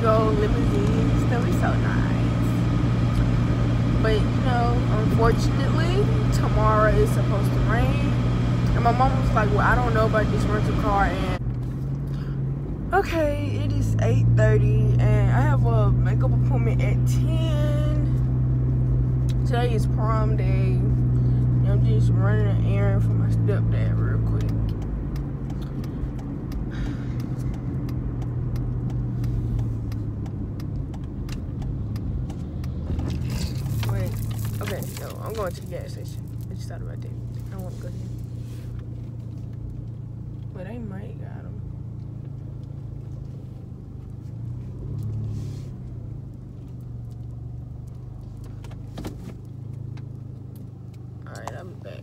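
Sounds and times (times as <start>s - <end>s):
car engine and road drone: 0.0s - 52.0s.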